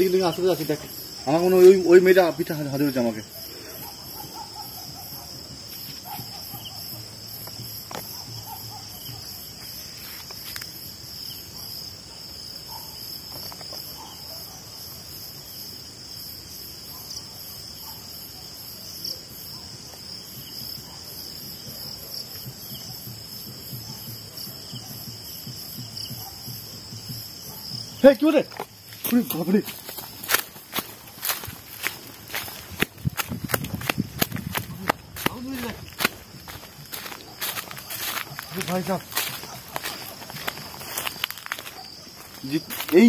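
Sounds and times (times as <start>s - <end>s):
crickets chirping: 0.0s - 43.0s
fast pulsing insect trill: 0.0s - 43.0s.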